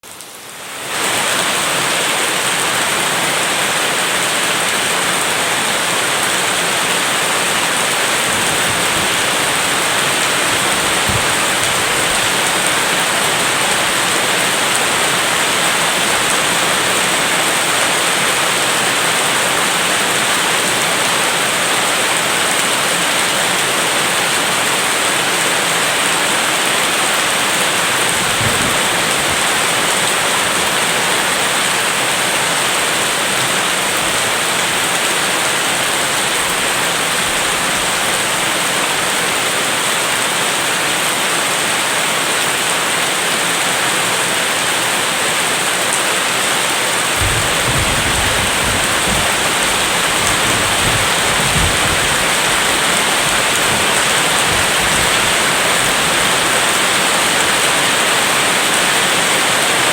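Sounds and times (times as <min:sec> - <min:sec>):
steady downpour of rain: 0:00.0 - 0:59.9.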